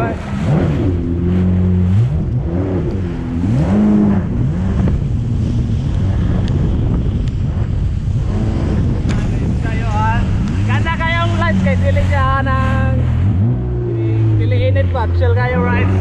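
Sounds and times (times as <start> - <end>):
jet ski engine revving: 0.0 - 16.0
water rushing past hull: 0.0 - 16.0
wind on microphone: 0.0 - 16.0.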